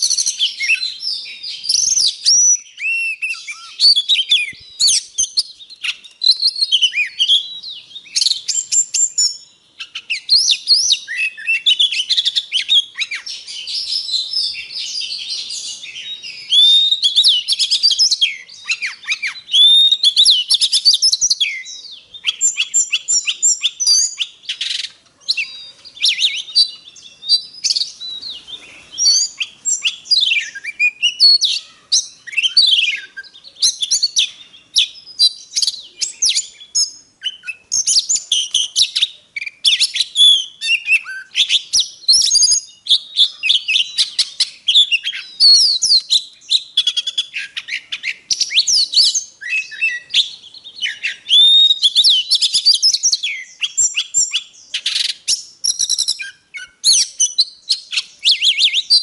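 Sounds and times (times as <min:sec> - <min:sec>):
bird singing whistled song: 0:00.0 - 0:59.0.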